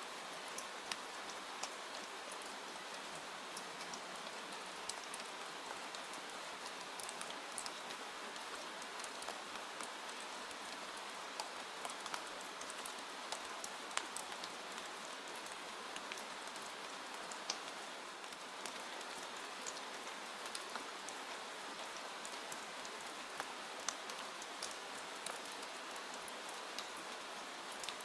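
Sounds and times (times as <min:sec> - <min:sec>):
rain ticking on window: 0:00.2 - 0:28.0.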